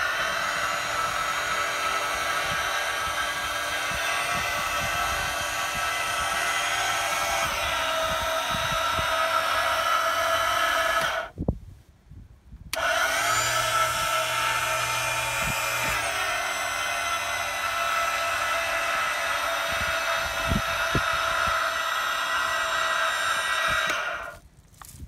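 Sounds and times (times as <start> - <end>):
electric motor and pump whining: 0.0 - 11.4, 12.7 - 24.4.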